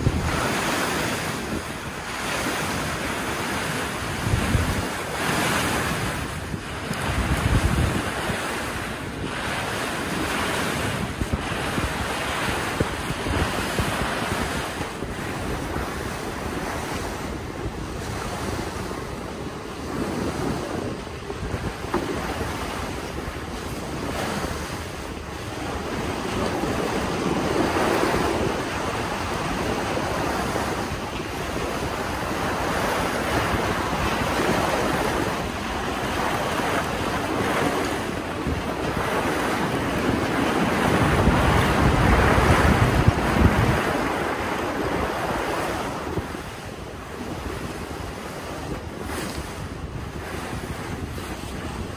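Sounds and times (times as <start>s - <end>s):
rushing water: 0.0s - 51.9s
wind gusting across microphone: 0.0s - 51.9s.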